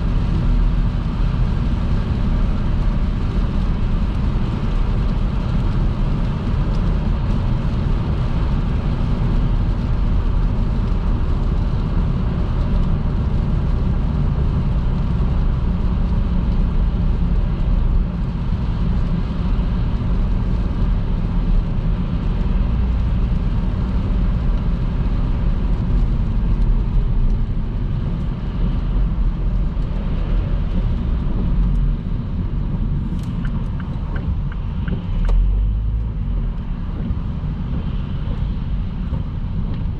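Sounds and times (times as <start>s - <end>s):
car road noise in rain: 0.0s - 39.9s.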